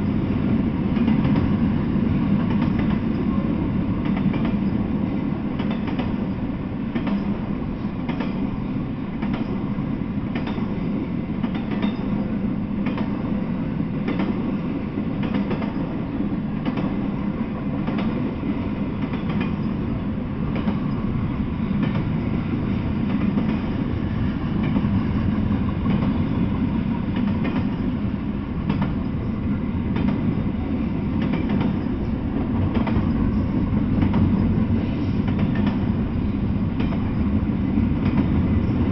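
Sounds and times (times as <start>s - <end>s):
freight train wheels rumbling: 0.0s - 38.9s
rail clicks: 0.0s - 38.9s.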